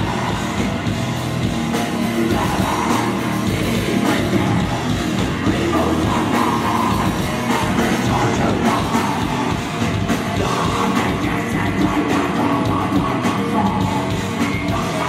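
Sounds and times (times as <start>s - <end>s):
drum kit: 0.0s - 15.0s
electric guitars: 0.0s - 15.0s
person singing into microphone: 2.0s - 15.0s.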